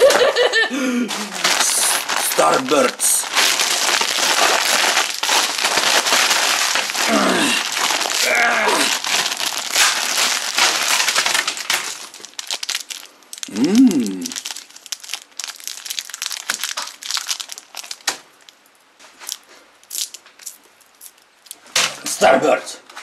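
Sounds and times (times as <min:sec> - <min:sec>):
plastic wrappers crinkling: 0:01.0 - 0:22.1.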